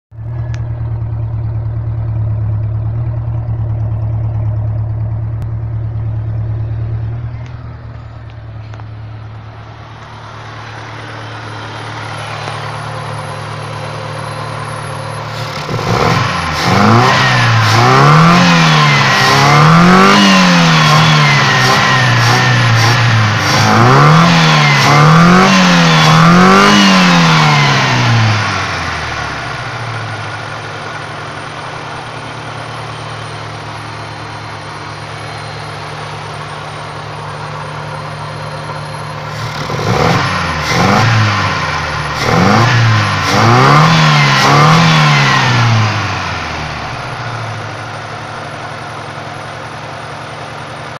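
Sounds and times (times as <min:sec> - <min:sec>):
car engine idling and revving: 0:00.1 - 0:50.9.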